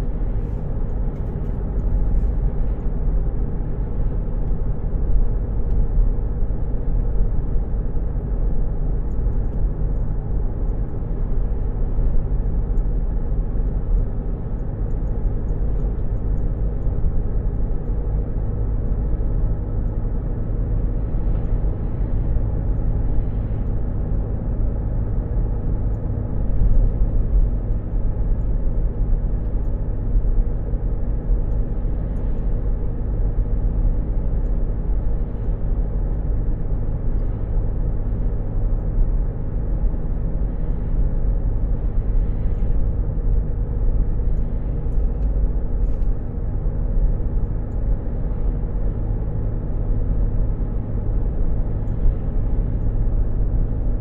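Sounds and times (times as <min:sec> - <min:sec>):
car engine and tyres hum: 0:00.0 - 0:54.0.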